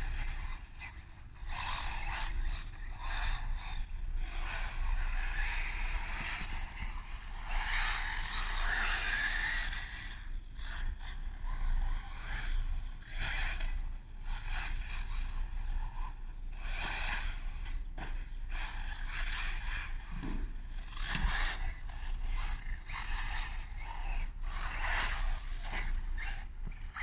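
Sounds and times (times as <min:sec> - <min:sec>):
radio-controlled car motors whining: 0:00.0 - 0:27.0.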